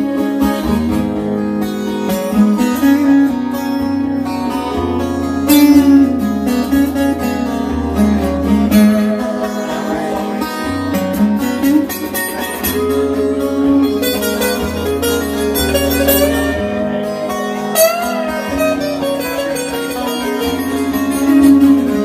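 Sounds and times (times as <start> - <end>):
instrumental guitar music: 0.0 - 22.0.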